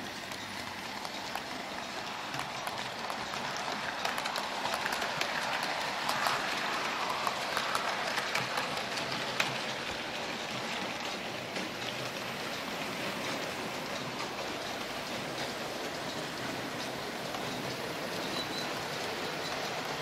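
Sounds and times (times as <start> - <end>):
model train wheels and motors whirring: 0.0 - 20.0
wheels clicking over rail joints: 0.0 - 20.0.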